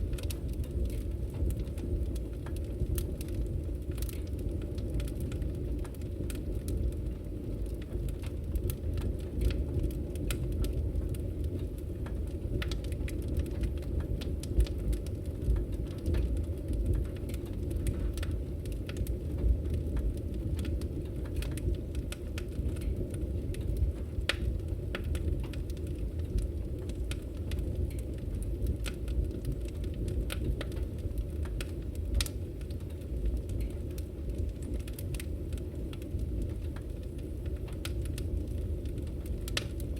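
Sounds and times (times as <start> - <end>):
crackles and pops of logs: 0.0 - 39.9
low rumble of fire: 0.0 - 39.9.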